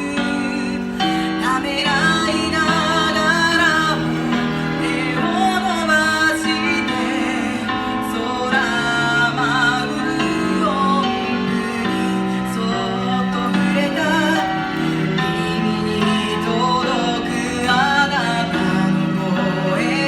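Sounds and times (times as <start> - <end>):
instrumental accompaniment chords: 0.0 - 20.0
person singing with vibrato: 0.0 - 20.0.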